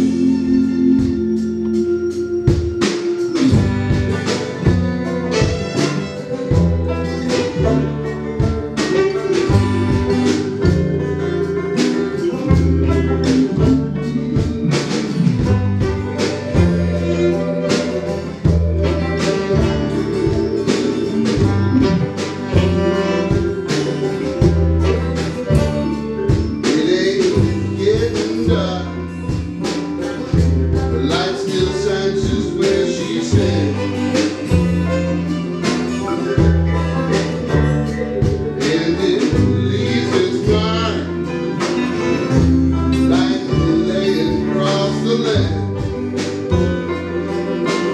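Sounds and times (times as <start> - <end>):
small band playing live: 0.0 - 47.9.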